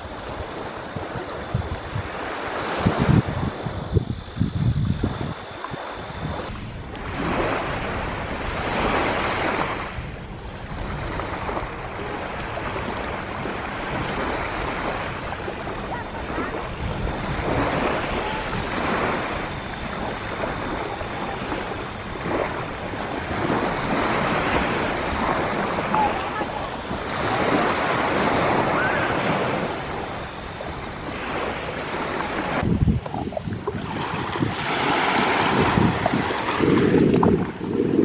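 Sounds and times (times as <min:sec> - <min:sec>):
surf washing onto beach: 0:00.0 - 0:38.0
wind buffeting microphone: 0:00.0 - 0:38.0.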